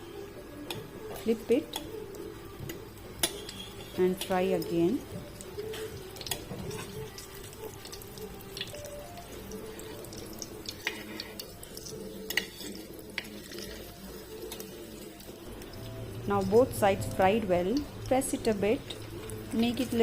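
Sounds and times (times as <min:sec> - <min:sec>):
food sizzling in hot oil: 0:00.0 - 0:20.0
soft background music: 0:00.0 - 0:20.0
oil popping and crackling: 0:00.7 - 0:20.0.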